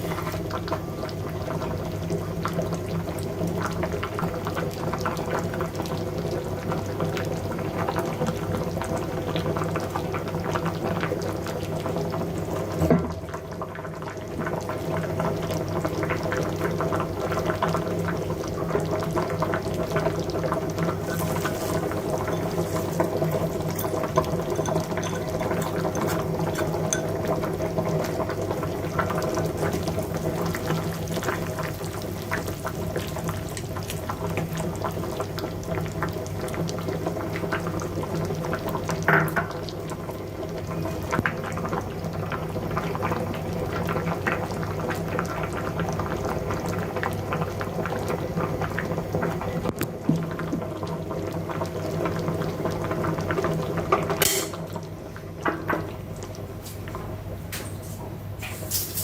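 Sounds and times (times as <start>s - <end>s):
liquid bubbling in a pot: 0.0s - 58.7s.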